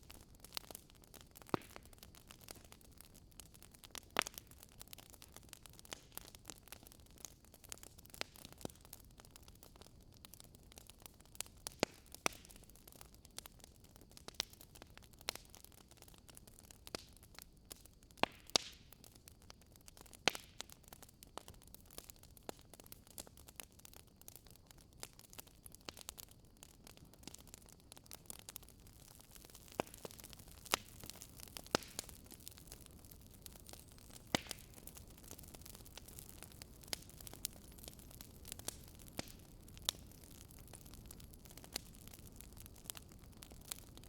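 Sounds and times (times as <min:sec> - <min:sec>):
campfire crackling: 0:00.0 - 0:44.0
low steady hiss: 0:00.0 - 0:44.0.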